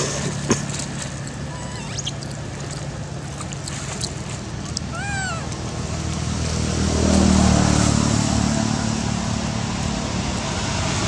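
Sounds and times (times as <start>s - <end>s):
motor vehicle engine running: 0.0s - 11.0s.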